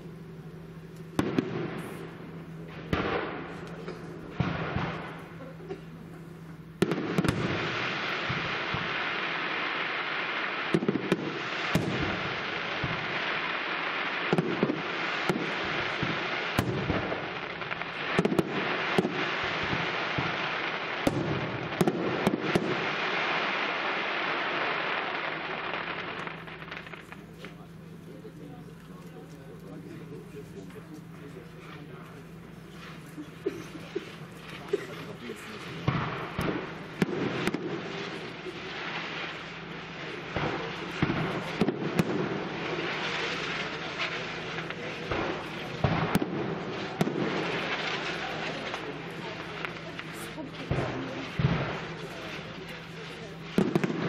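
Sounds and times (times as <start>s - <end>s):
fireworks crackling: 0.0s - 54.0s
firework bangs: 0.7s - 54.0s.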